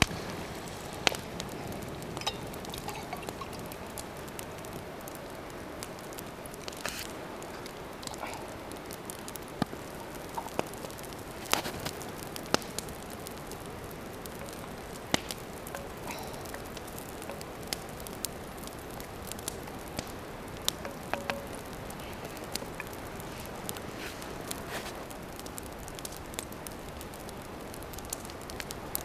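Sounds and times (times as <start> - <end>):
campfire crackling: 0.0 - 29.0
fire popping: 0.0 - 29.0.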